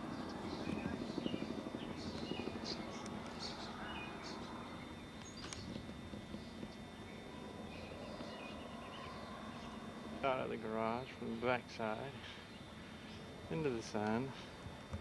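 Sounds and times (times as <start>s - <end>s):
small birds chirping: 0.0s - 14.7s.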